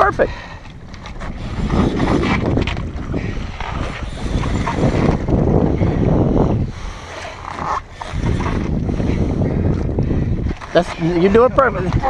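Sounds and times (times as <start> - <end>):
wind gusting across microphone: 0.0 - 12.0.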